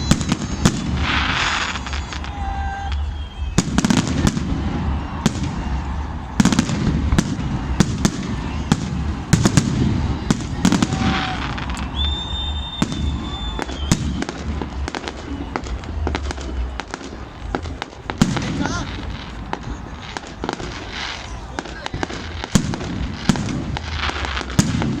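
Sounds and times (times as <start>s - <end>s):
high whistle: 0.0s - 24.6s
fireworks bangs and cracks: 0.0s - 25.0s.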